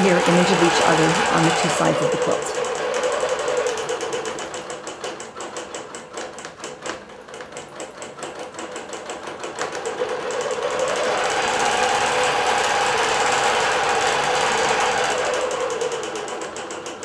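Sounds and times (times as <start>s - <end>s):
steady machine hum: 0.0s - 6.2s, 7.2s - 17.0s
quilting machine needle patter: 0.0s - 17.0s.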